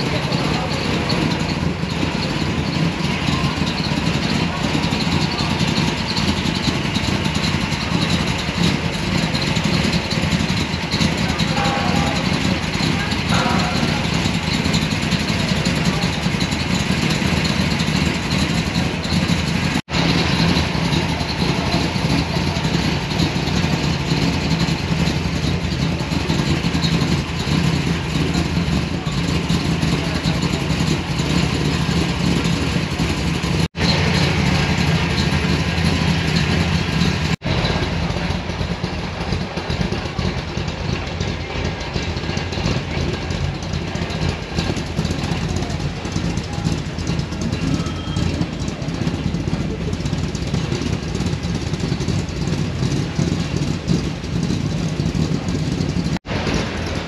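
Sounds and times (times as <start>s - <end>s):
voices in the background: 0.0s - 56.1s
car engines idling and revving: 0.0s - 57.0s.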